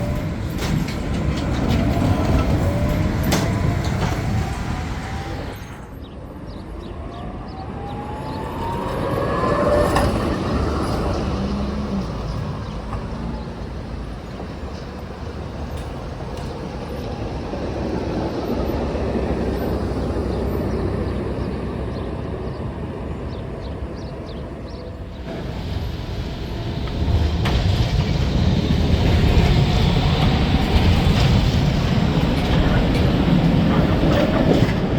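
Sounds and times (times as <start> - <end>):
tram motor whine: 0.0 - 34.9
wheels rumbling on rails: 0.0 - 34.9.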